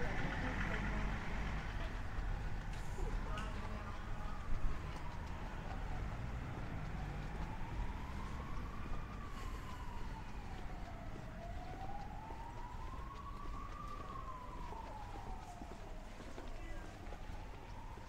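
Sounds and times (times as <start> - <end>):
low street noise: 0.0 - 18.0
siren wailing up and down: 0.0 - 18.0.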